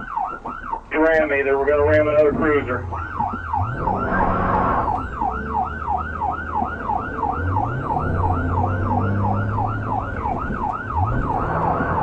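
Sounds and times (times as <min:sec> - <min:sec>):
police siren yelping: 0:00.0 - 0:12.0
car engine hum: 0:00.8 - 0:12.0.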